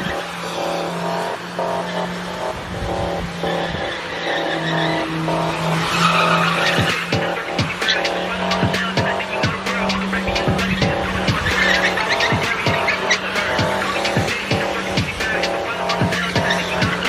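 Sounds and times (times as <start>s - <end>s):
car engine at high revs: 0.0s - 17.0s
tyres spinning and skidding: 0.0s - 17.0s.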